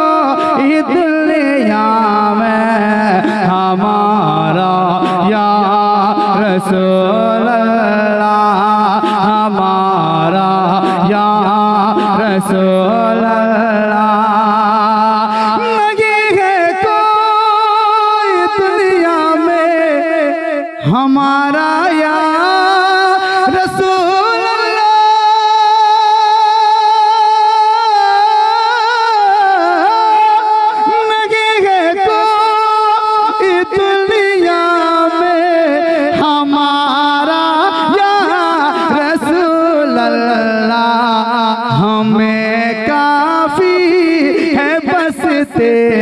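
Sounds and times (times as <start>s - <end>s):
man singing into a microphone: 0.0s - 46.0s.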